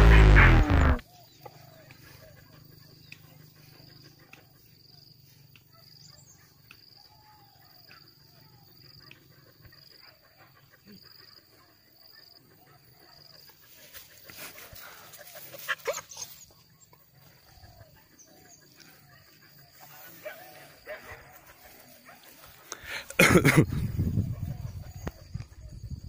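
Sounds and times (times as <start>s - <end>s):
quiet rural ambience: 0.0s - 26.0s.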